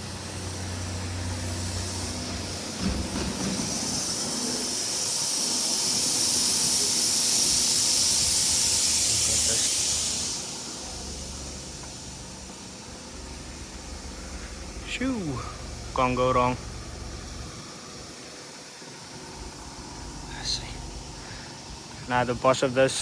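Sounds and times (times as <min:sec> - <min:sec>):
compressed air hissing: 0:00.0 - 0:23.0.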